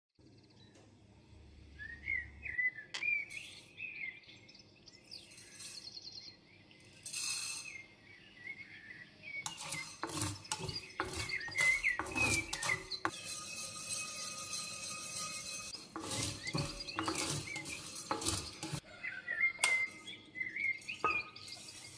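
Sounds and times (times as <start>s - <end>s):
small birds chirping: 1.7s - 21.9s.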